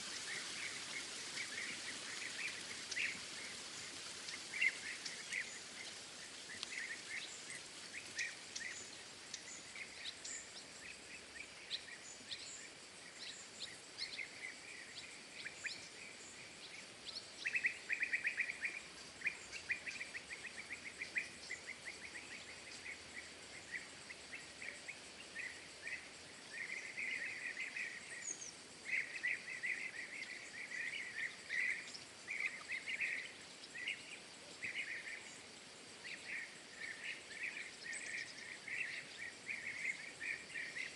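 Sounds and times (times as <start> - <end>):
faint high-pitched chirps: 0.0 - 40.9
small birds chirping: 0.0 - 40.9
steady background hiss: 0.0 - 40.9.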